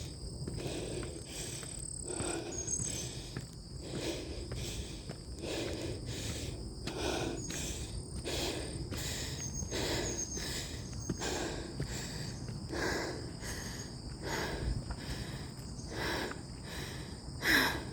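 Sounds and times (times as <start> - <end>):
insects buzzing: 0.0 - 17.9
person breathing hard: 0.0 - 17.9.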